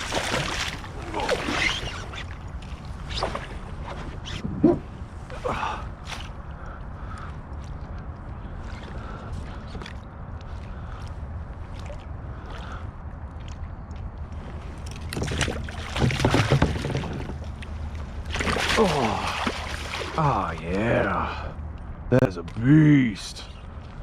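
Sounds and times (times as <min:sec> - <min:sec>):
water splashing: 0:00.0 - 0:04.3, 0:05.3 - 0:21.5
water and wind rumble: 0:00.0 - 0:24.0.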